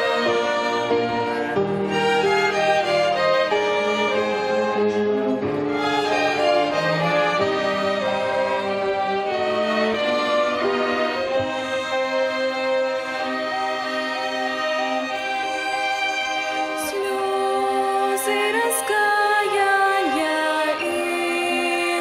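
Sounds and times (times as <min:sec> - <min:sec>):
violin ensemble playing a hymn: 0:00.0 - 0:22.0.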